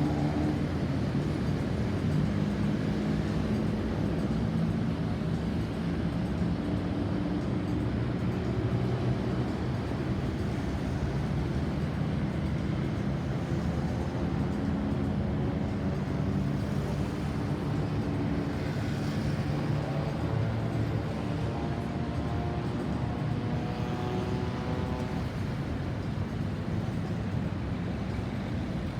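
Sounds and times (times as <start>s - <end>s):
vehicle engines rumbling: 0.0s - 28.9s.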